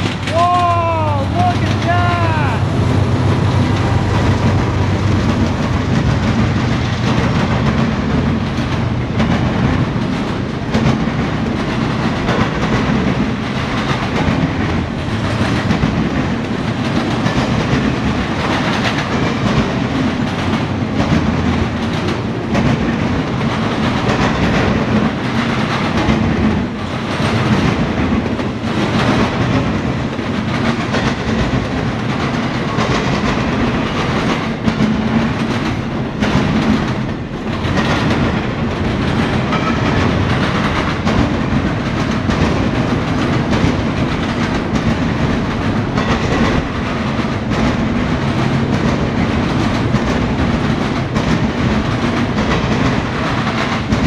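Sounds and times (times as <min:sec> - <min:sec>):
wheels clicking over rail joints: 0:00.0 - 0:02.1, 0:02.7 - 0:54.0
diesel locomotive engine droning: 0:00.0 - 0:54.0
freight cars rolling: 0:00.0 - 0:54.0.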